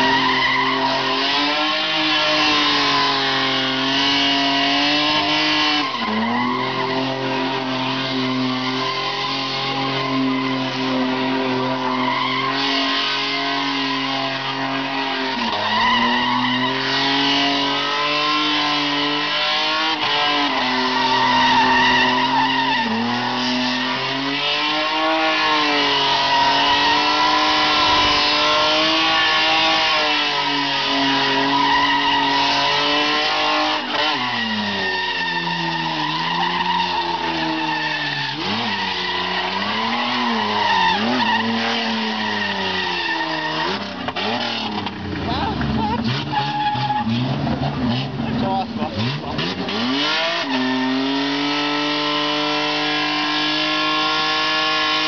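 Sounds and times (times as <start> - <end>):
tyres squealing: 0.0 - 4.2, 5.0 - 19.0, 19.9 - 51.0
car engine at high revs: 0.0 - 55.0.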